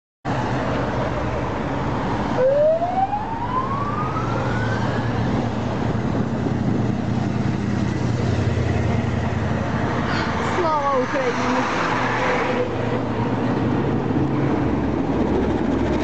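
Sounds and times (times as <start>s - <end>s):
heavy trucks driving past: 0.3s - 16.0s.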